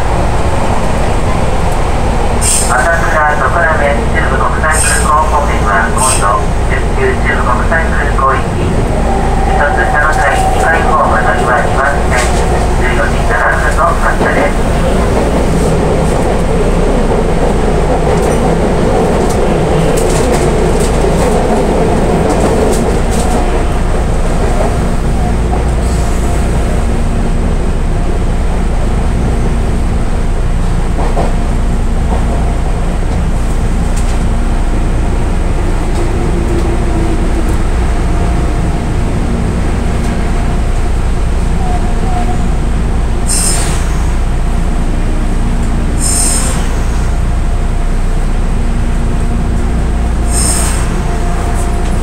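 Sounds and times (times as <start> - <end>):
electric train rumbling: 0.0 - 52.0.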